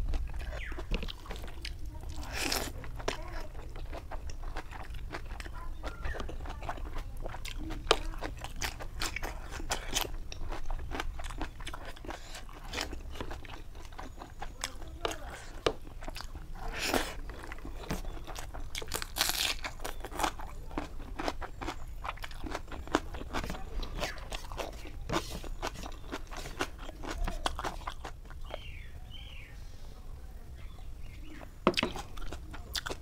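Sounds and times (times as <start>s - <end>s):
wet chewing and lip smacks: 0.0s - 28.9s, 31.4s - 33.0s.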